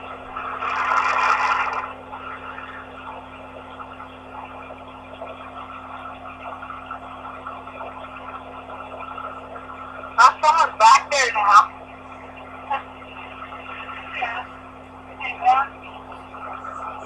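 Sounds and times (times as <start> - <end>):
car wash noise through phone speaker: 0.0 - 17.0
electrical hum: 0.0 - 17.0.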